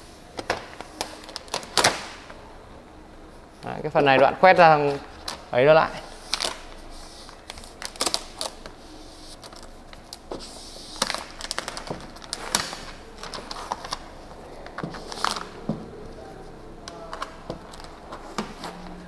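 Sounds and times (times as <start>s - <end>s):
vinyl film crackling: 0.3s - 4.2s, 4.8s - 19.0s.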